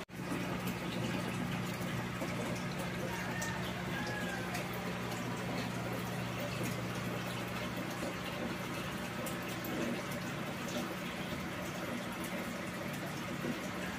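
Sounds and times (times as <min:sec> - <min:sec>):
air bubbling in aquarium filter: 0:00.1 - 0:13.9.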